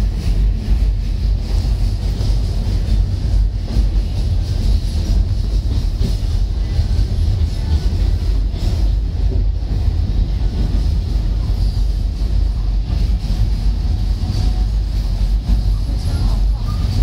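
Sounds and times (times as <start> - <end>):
train carriage rumbling: 0.0 - 17.0.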